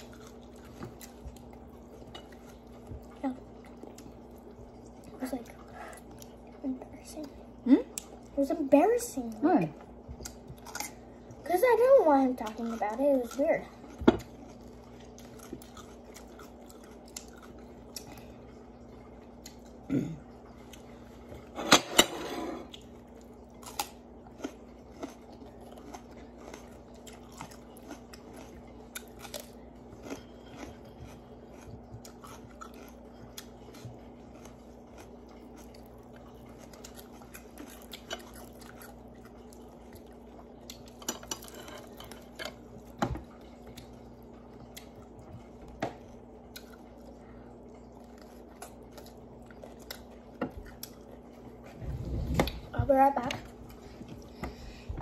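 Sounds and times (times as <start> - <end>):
crunchy chewing of vegetables: 0.0 - 21.6, 22.6 - 54.9
steady low hum: 0.0 - 55.0.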